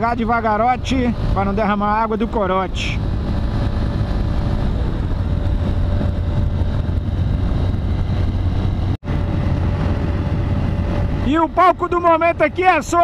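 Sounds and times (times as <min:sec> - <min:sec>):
motorcycle engine cruising: 0:00.0 - 0:13.0
wind rushing past microphone: 0:00.0 - 0:13.0.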